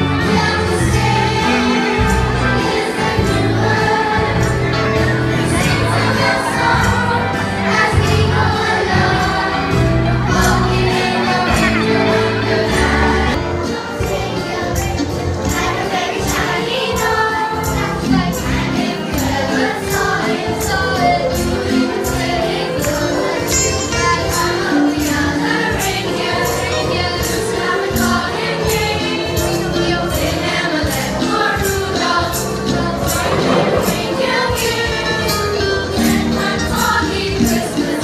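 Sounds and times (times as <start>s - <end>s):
children's choir singing: 0.0s - 38.0s
music with percussive beat: 0.0s - 38.0s.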